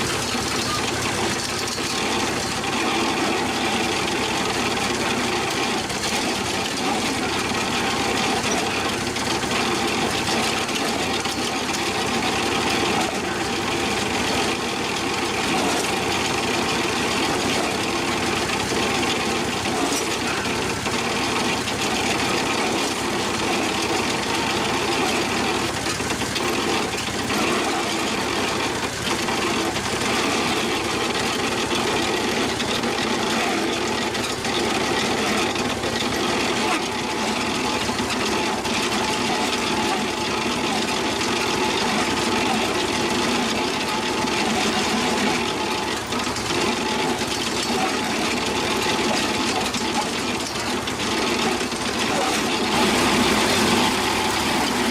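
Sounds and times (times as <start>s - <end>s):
engine running steadily: 0.0s - 54.9s.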